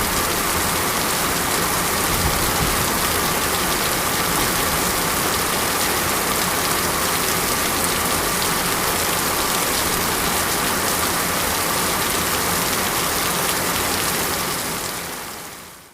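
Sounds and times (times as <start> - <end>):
steady rain falling: 0.0 - 15.9.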